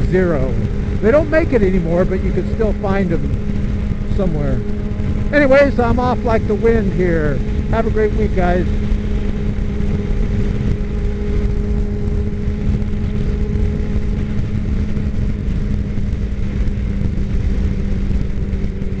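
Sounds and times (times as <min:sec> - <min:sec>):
motorcycle engine cruising: 0:00.0 - 0:19.0
wind rumbling on microphone: 0:00.0 - 0:19.0.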